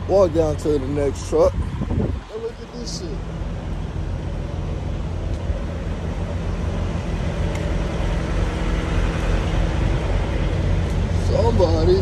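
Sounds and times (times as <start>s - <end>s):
truck engines idling: 0.0s - 12.0s.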